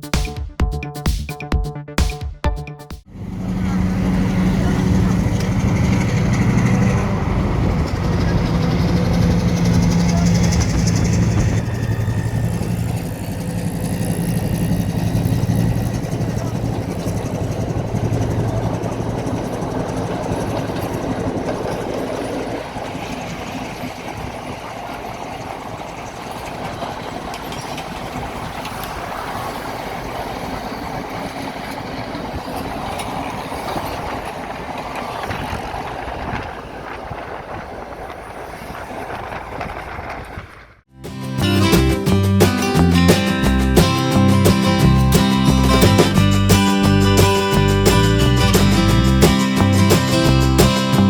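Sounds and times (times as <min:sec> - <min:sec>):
locomotive engine hum: 0:03.1 - 0:51.0
train rolling on rails: 0:03.1 - 0:51.0.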